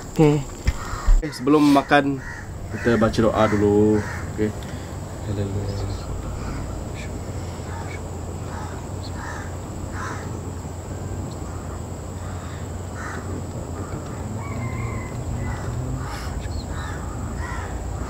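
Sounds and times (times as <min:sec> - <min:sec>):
birds calling: 0:00.0 - 0:18.0
steady low hum: 0:00.0 - 0:18.0.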